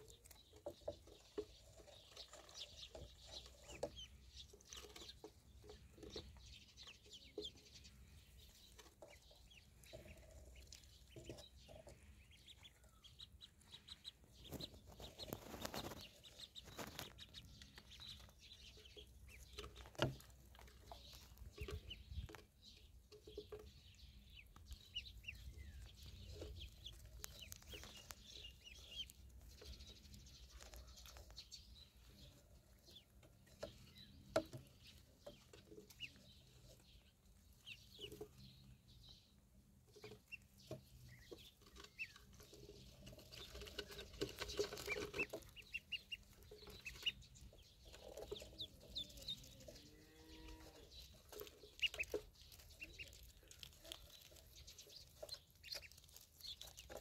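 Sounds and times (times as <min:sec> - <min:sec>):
ducklings peeping: 0:00.0 - 0:57.0.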